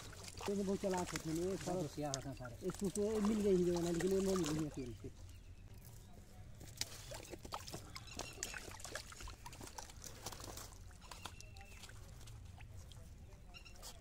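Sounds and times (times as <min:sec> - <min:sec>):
fish splashing in shallow water: 0:00.0 - 0:14.0.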